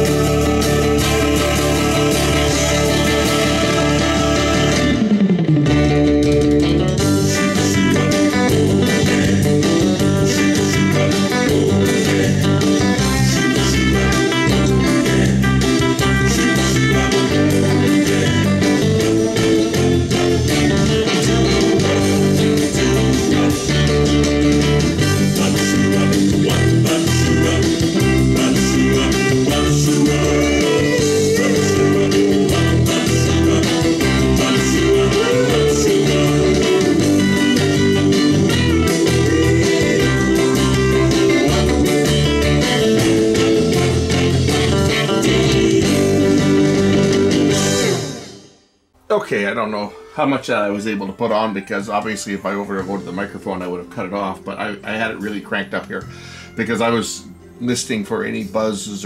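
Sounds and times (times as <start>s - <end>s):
loud guitar and bass music: 0.0s - 48.6s.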